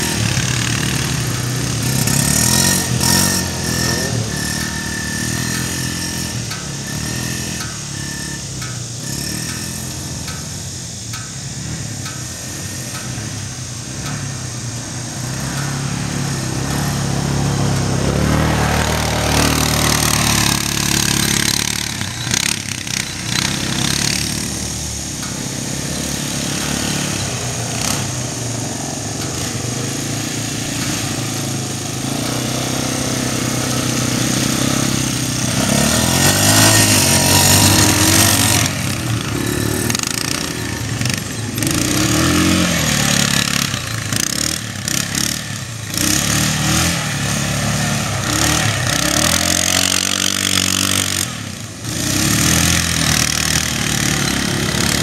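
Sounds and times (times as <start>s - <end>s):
quad engine idling: 0.0s - 55.0s
small quad riding around: 0.0s - 55.0s.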